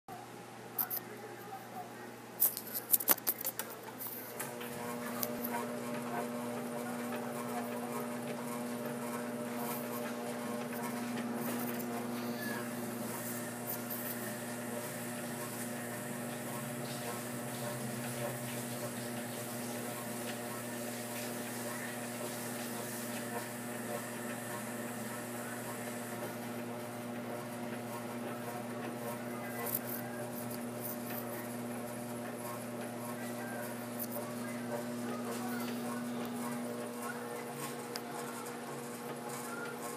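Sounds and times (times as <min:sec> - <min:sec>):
glass lathe humming: 0:04.4 - 0:39.9.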